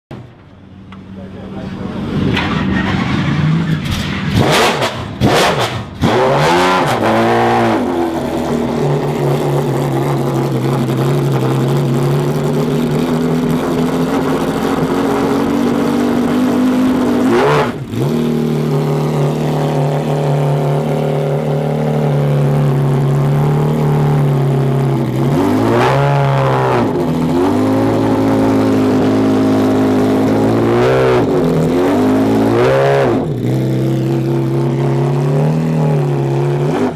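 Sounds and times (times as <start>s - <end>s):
race car engine starting and revving: 0.9s - 36.9s.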